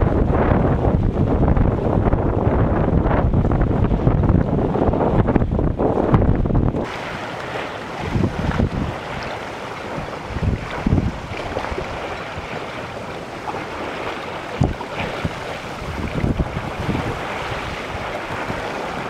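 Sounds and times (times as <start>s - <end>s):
water splashing along a hull: 0.0s - 19.0s
wind buffeting microphone: 0.0s - 19.0s.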